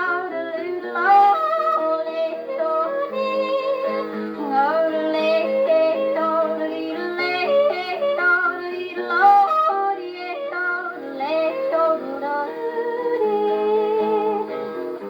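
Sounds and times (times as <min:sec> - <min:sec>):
guitar accompaniment: 0:00.0 - 0:15.0.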